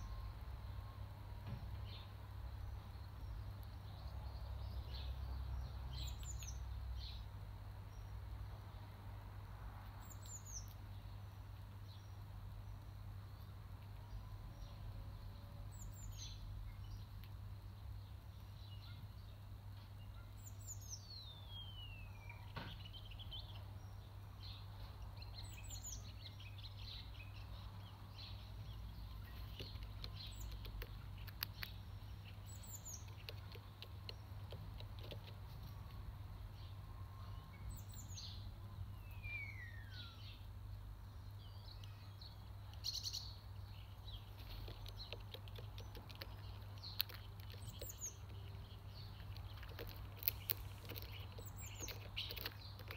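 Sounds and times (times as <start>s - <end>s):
songbirds chirping: 0.0s - 52.9s.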